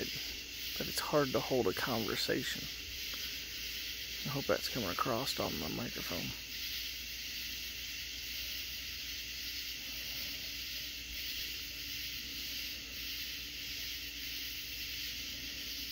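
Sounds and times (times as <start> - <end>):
cicadas droning: 0.0 - 15.9.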